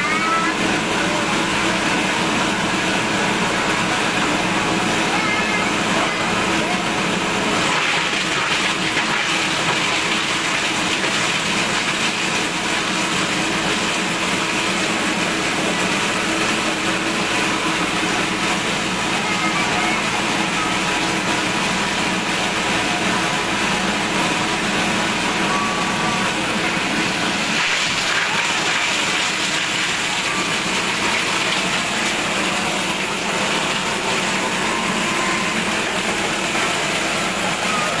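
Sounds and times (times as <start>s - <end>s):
plastic crusher machine running: 0.0s - 38.0s.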